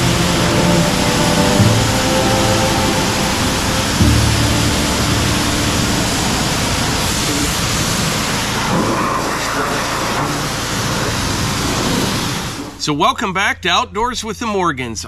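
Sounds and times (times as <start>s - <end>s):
pressure washer spraying water: 0.0s - 12.8s.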